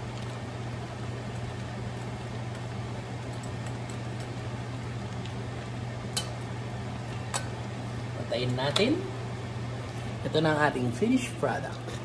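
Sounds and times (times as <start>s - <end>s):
low mechanical hum: 0.0s - 12.0s
prawns simmering in pan: 0.0s - 12.0s.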